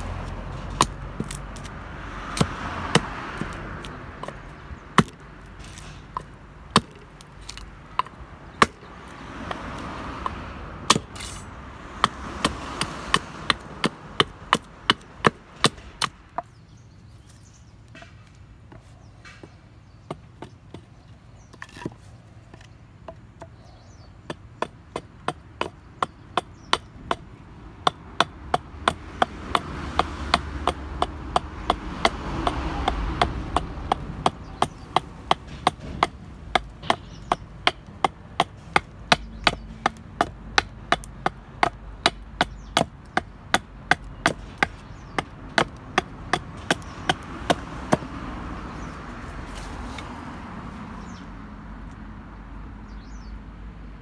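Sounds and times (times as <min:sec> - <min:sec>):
hatchet chopping wood: 0:00.0 - 0:16.6, 0:19.3 - 0:48.9.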